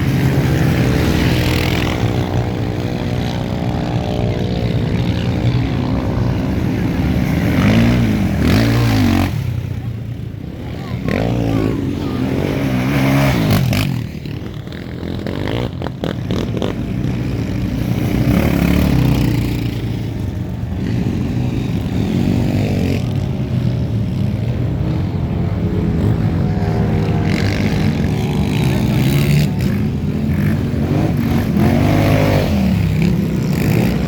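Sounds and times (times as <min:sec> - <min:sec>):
racing engines revving and passing: 0:00.0 - 0:34.0.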